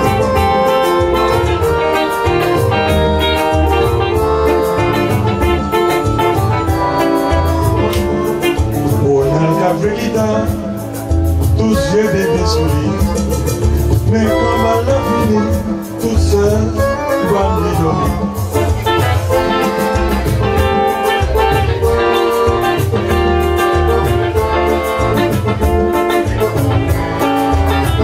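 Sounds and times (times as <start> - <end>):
bass: 0.0 - 28.0
drum beat: 0.0 - 28.0
electric guitar playing: 0.0 - 28.0
keyboard chords: 0.0 - 28.0.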